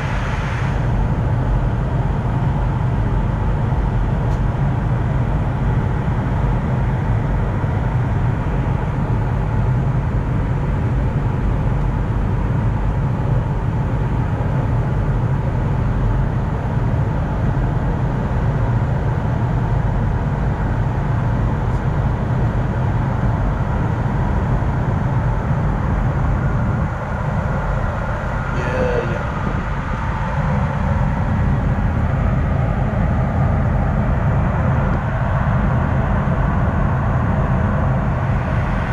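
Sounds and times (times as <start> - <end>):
cockpit airflow and engine rumble: 0.0 - 38.9.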